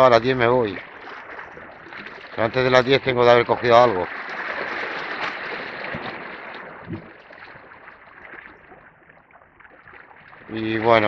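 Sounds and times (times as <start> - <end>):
sea water washing against rocks: 0.0 - 11.0.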